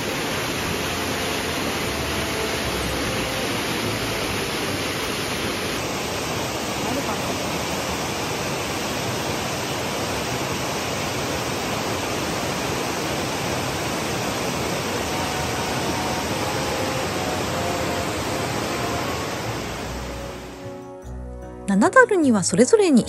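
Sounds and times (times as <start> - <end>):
waterfall rushing: 0.0 - 20.8.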